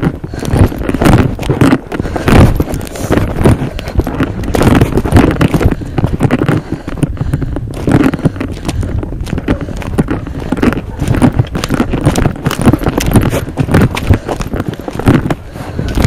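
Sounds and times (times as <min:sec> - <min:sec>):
branches crunching and rustling: 0:00.0 - 0:16.0
running footfalls: 0:00.0 - 0:16.0.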